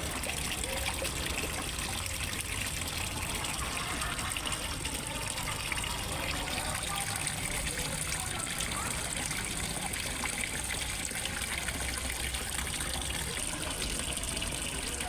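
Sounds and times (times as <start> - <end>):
water trickling into pond: 0.0 - 15.0.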